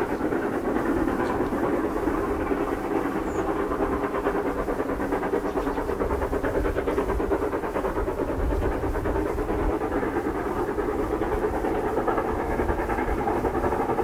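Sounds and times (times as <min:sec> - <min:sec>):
steam locomotives chuffing: 0:00.0 - 0:14.0.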